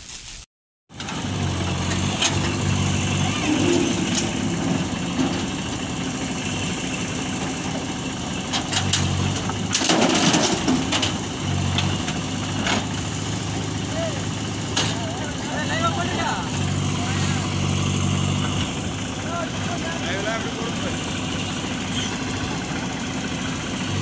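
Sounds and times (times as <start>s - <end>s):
diesel engines running: 0.9s - 24.0s.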